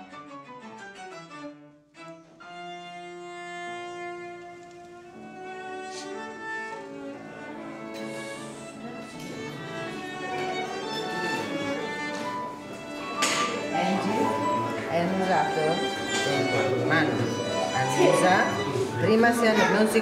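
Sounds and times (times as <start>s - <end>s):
bowed strings music: 0.0s - 20.0s.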